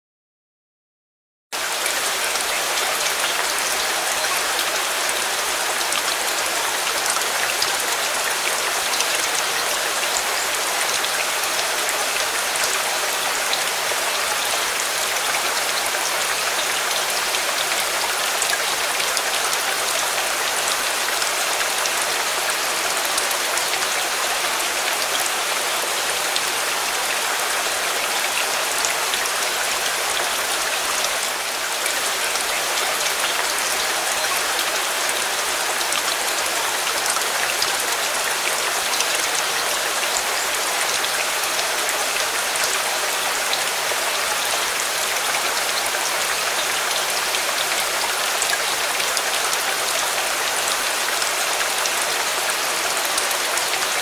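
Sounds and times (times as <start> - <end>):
steady rain falling: 1.6 - 54.0.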